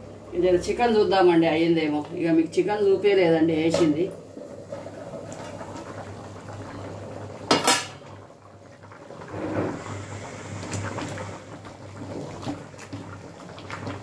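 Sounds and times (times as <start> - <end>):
curry bubbling: 0.0 - 14.0.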